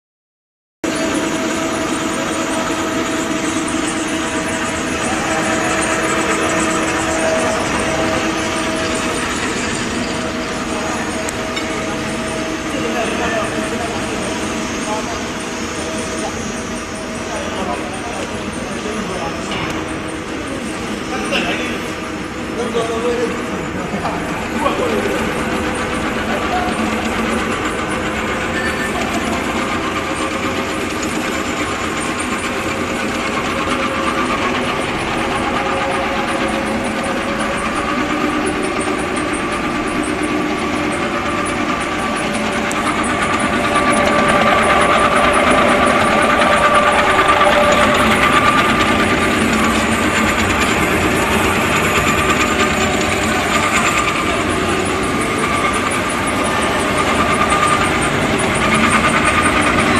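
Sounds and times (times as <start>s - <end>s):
machine whining tones: 0.8s - 59.9s
printing machine drone: 0.8s - 59.9s.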